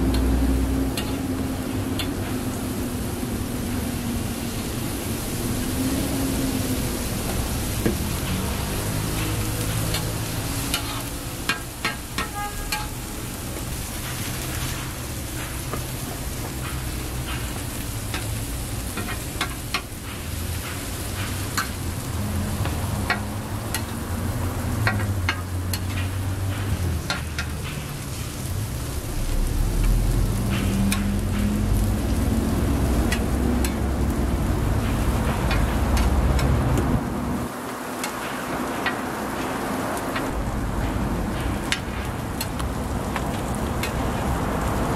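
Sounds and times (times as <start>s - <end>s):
food sizzling on griddle: 0.0s - 44.9s.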